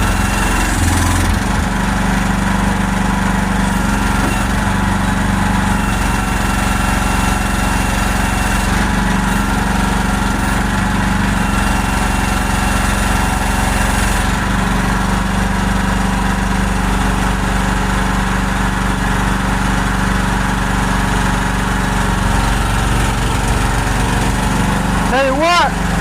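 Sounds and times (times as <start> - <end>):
excavator engine running: 0.0 - 26.0
hydraulics working: 0.0 - 26.0.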